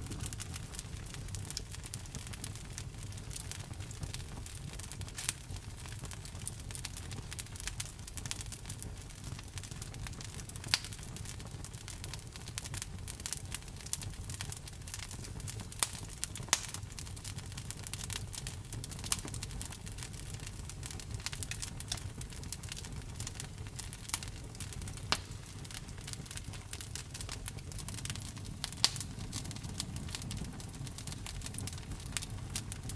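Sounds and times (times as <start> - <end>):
sharp pops of burning wood: 0.0 - 11.3, 12.1 - 32.9
low steady fire rumble: 0.0 - 32.9
wood fire crackling: 0.0 - 32.9.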